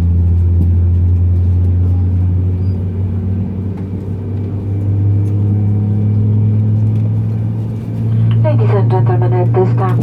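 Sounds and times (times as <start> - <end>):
aircraft cabin hum: 0.0 - 10.0.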